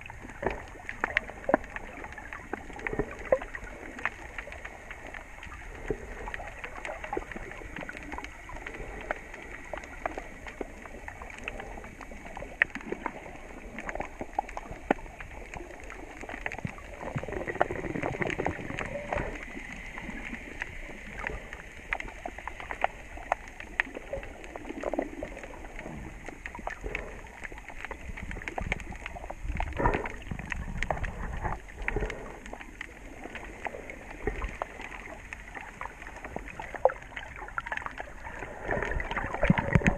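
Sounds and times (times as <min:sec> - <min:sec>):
low water sloshing: 0:00.0 - 0:39.9
muffled underwater water wash: 0:00.0 - 0:39.9
small underwater clicks and crackles: 0:00.0 - 0:39.9.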